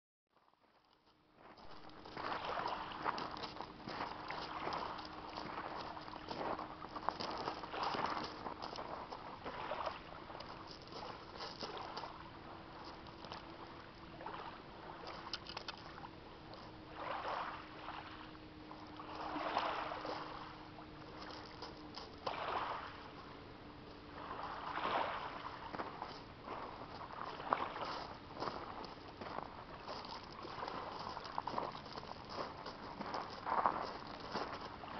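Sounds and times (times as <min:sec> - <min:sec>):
small waves washing onto pebbles: 0:01.4 - 0:34.9.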